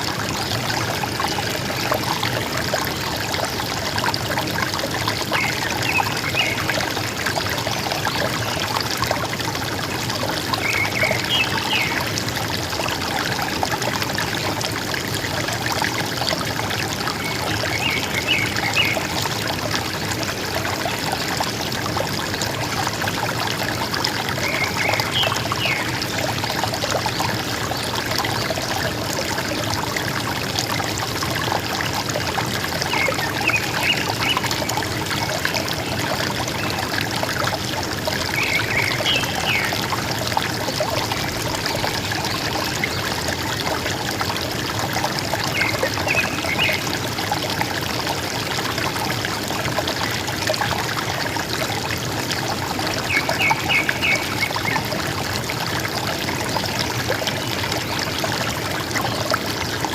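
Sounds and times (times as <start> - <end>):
river water gurgling: 0.0 - 59.9.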